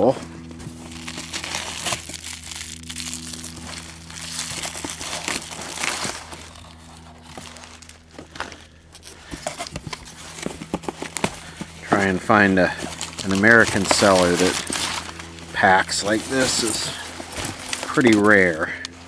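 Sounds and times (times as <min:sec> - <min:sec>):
low hum: 0:00.0 - 0:19.0
packing paper rustling: 0:00.0 - 0:19.0.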